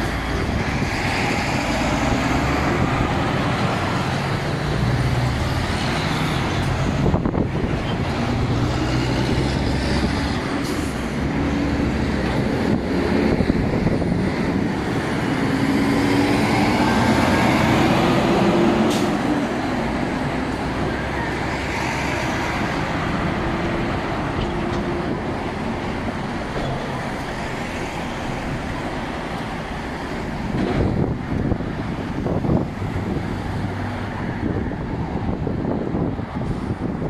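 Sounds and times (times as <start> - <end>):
diesel truck engines: 0.0 - 37.0
passing cars: 0.0 - 37.0
tyre and road noise: 0.0 - 37.0.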